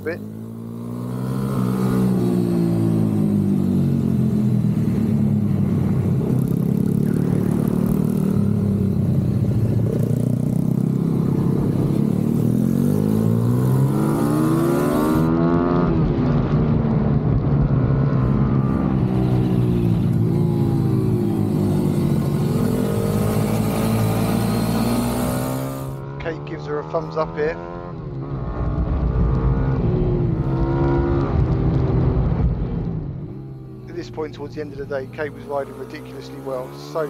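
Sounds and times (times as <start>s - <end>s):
pit bike engine revving: 0.0s - 16.0s, 18.0s - 28.6s, 33.2s - 37.0s.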